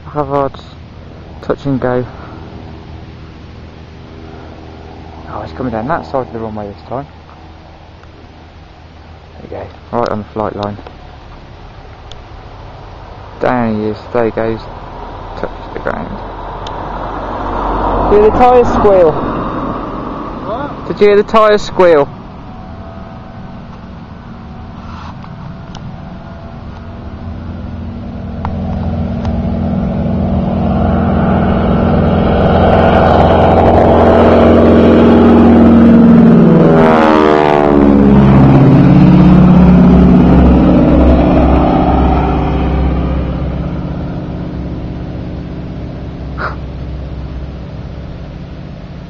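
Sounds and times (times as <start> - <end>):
propeller plane engine passing: 0.0 - 49.0.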